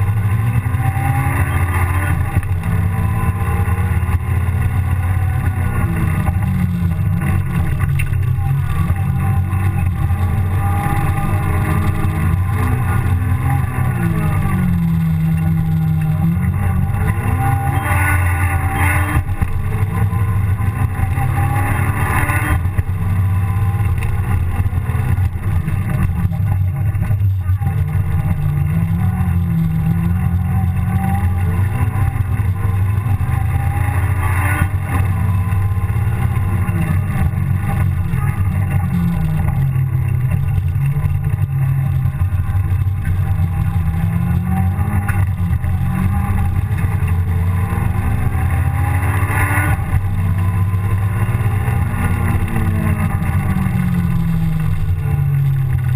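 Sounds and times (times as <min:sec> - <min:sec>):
car engine revving from inside: 0:00.0 - 0:55.9.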